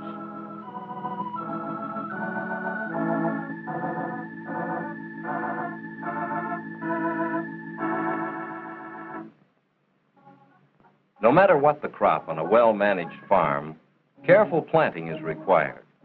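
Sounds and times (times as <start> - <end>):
organ music: 0.0 - 9.4, 11.3 - 13.6, 14.2 - 15.8.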